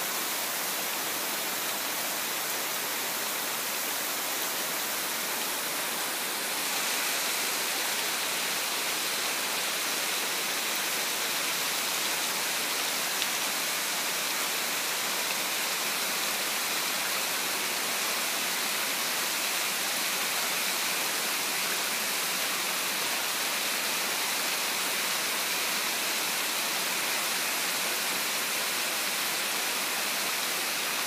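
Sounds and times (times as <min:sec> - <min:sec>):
heavy rain on foliage: 0:00.0 - 0:31.0.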